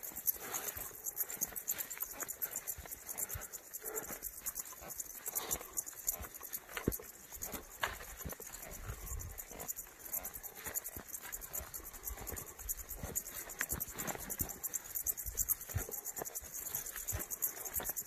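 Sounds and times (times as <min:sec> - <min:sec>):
footsteps in grass: 0:00.0 - 0:18.0
insects chirping: 0:00.0 - 0:18.0
rustling in dry grass: 0:00.1 - 0:18.0.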